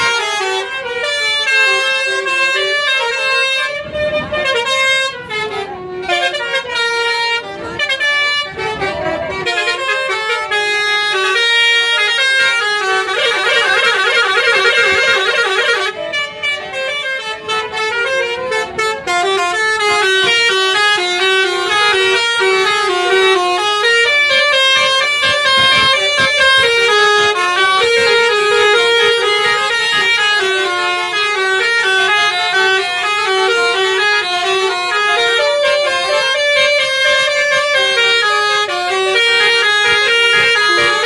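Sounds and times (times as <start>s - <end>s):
multi-tone bus horn playing tune: 0.0s - 41.0s.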